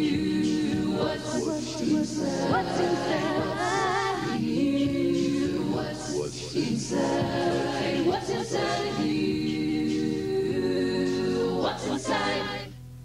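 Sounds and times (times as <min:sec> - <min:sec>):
vocal group singing in harmony: 0:00.0 - 0:12.8.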